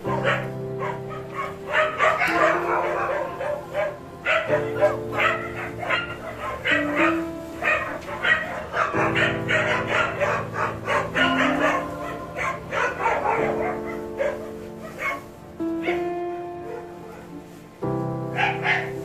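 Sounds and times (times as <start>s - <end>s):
slow chord background music: 0.0s - 19.0s
puppies squealing and yipping: 0.1s - 16.1s, 18.4s - 19.0s.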